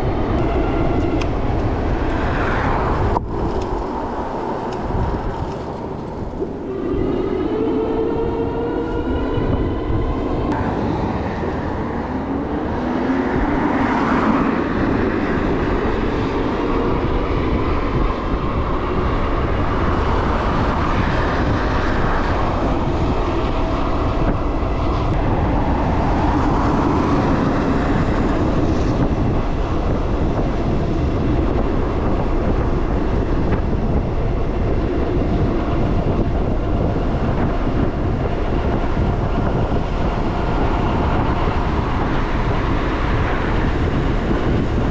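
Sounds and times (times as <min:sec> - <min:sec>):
wind noise on microphone: 0:00.0 - 0:44.9.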